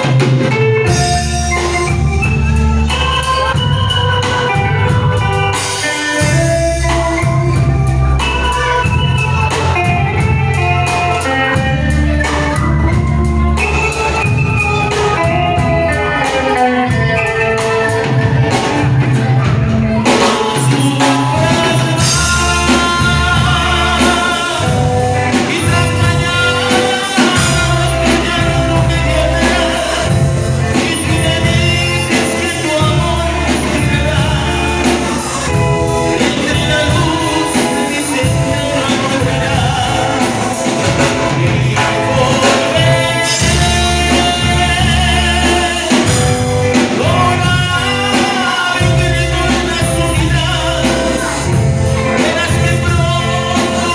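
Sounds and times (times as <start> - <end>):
drum kit: 0.0 - 53.9
electric bass: 0.0 - 53.9
electric guitar: 0.0 - 53.9
keyboards: 0.0 - 53.9
man singing: 0.0 - 53.9.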